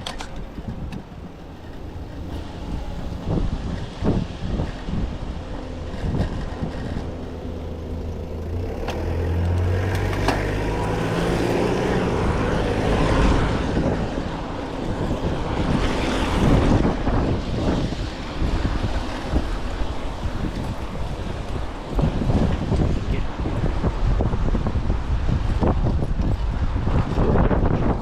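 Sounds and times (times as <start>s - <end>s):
low steady vehicle hum: 0.0s - 28.0s
wind buffeting microphone: 0.0s - 28.0s.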